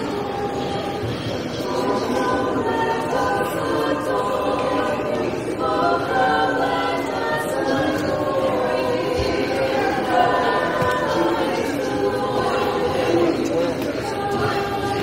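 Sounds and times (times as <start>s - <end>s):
a cappella group singing: 0.0s - 15.0s.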